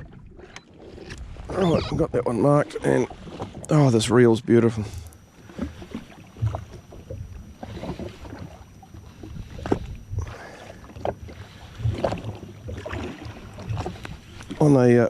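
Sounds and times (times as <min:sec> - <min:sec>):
small waves slapping a hull: 0:00.0 - 0:15.0.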